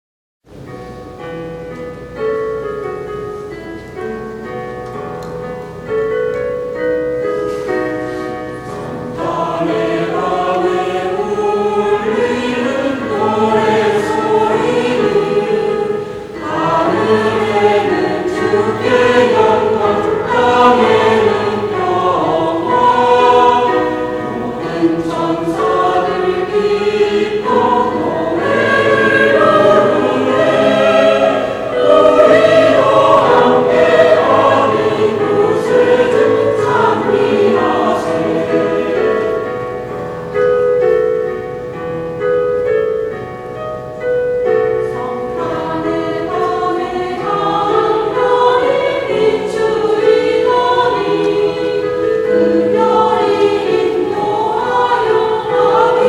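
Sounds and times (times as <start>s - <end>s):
instrumental accompaniment: 0.6s - 56.0s
choir singing: 7.5s - 41.1s, 44.7s - 56.0s.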